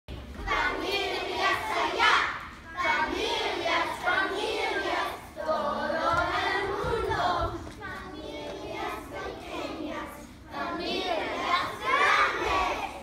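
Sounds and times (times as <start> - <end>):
children singing in unison: 0.3 - 13.0.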